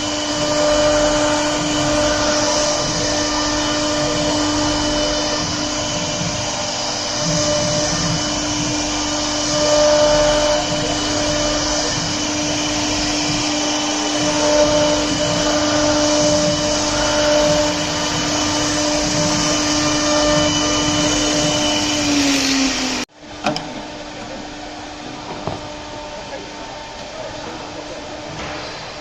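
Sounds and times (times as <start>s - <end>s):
router whine with rushing hiss: 0.0s - 29.0s.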